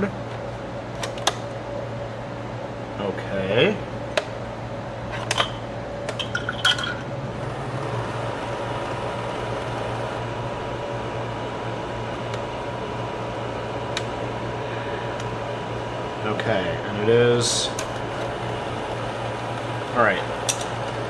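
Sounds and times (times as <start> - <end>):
steady hum: 0.0 - 21.0
thin steady whine: 1.6 - 21.0.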